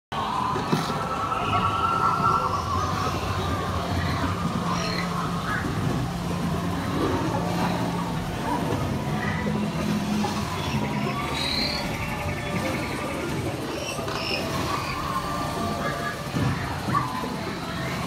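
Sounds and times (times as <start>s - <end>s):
low droning tones: 0.2s - 18.0s.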